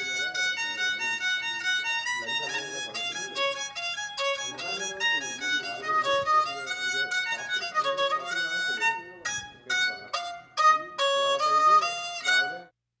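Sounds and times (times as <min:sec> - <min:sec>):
bowed fiddle melody: 0:00.0 - 0:12.7.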